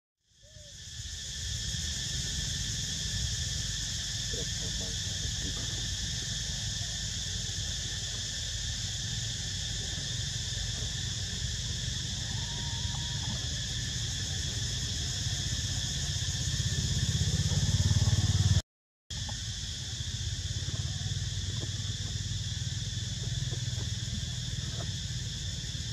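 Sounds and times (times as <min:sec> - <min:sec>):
insects buzzing: 0:00.3 - 0:25.9.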